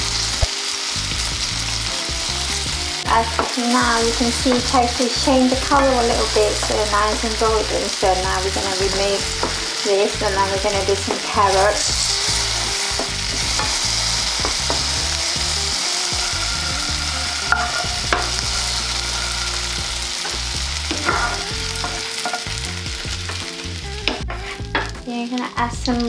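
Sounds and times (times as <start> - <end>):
tofu sizzling in oil: 0.0 - 26.0.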